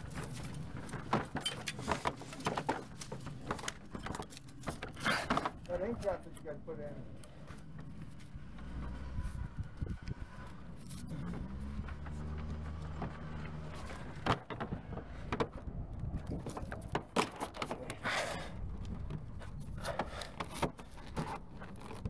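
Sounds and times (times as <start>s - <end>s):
vinyl fence parts clacking: 0.0s - 22.0s
low engine hum: 3.0s - 22.0s.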